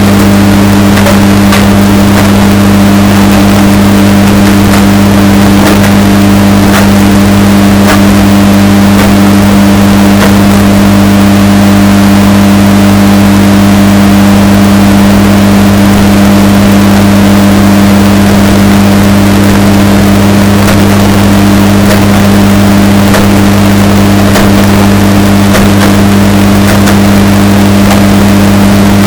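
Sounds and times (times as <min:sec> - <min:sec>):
washing machine motor hum: 0:00.0 - 0:29.0.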